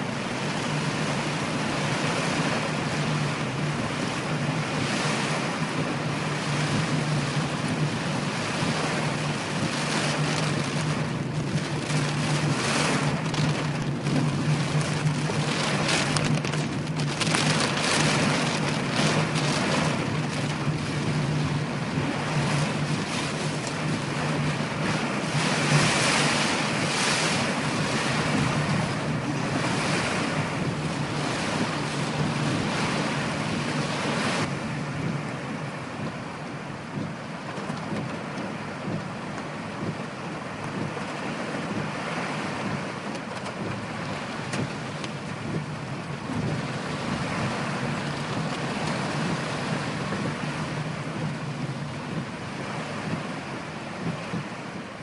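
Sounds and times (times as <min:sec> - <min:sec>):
heavy rain pounding on car: 0:00.0 - 0:55.0.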